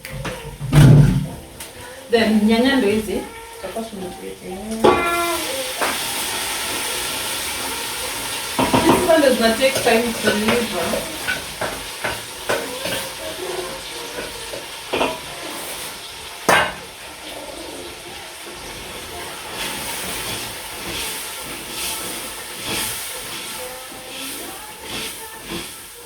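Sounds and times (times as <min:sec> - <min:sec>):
food sizzling in a pan: 0:00.0 - 0:26.0
spoon scraping a pan: 0:04.8 - 0:26.0.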